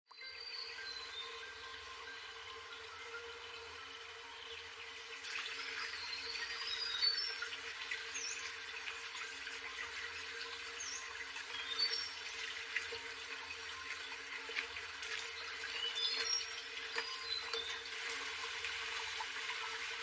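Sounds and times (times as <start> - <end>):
running water: 0.2 - 20.0.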